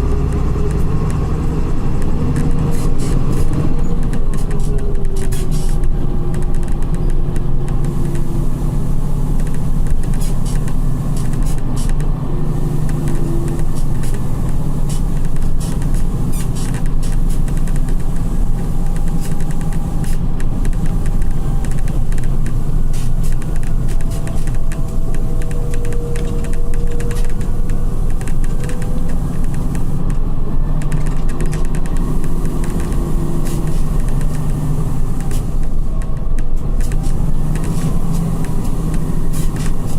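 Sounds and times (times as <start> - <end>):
body creaking and rattling: 0.0 - 8.3, 9.3 - 39.9
coach engine running: 0.0 - 39.9.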